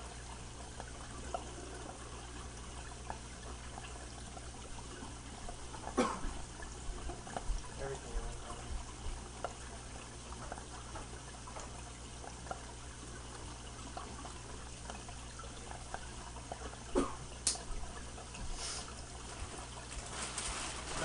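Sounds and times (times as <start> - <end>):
aquarium filter water trickling: 0.0 - 21.0.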